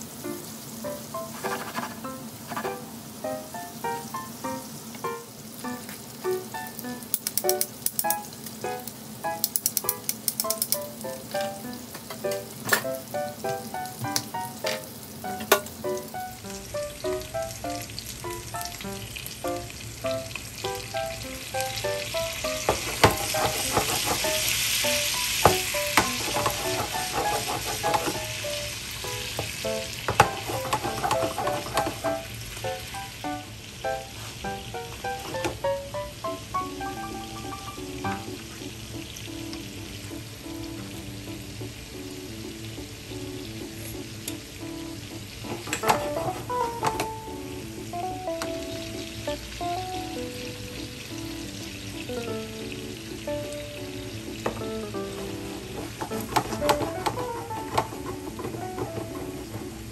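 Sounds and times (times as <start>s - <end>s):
fish sizzling in oil: 0.0s - 59.9s
light plucked background music: 0.1s - 59.9s.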